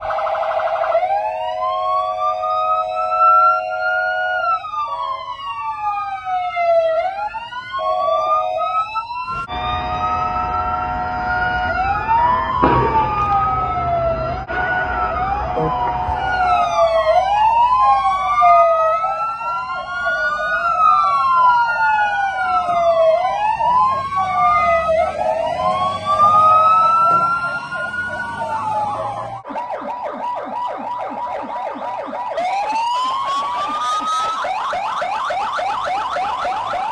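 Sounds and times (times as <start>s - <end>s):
ambulance siren wailing: 0.0s - 36.9s
short steady siren tones: 0.0s - 36.9s.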